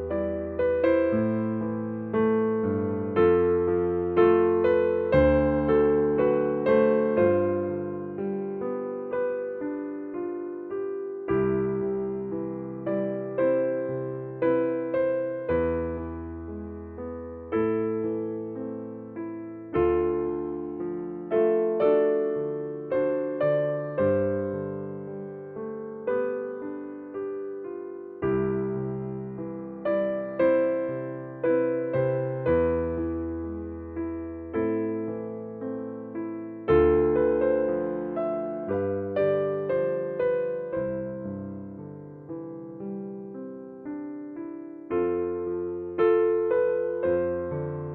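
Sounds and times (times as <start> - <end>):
gentle piano music: 0.0 - 47.9.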